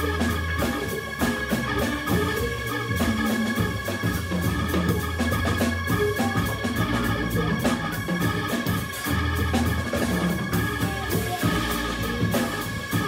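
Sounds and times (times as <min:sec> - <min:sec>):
drum kit groove: 0:00.0 - 0:13.0
organ chords: 0:00.0 - 0:13.0.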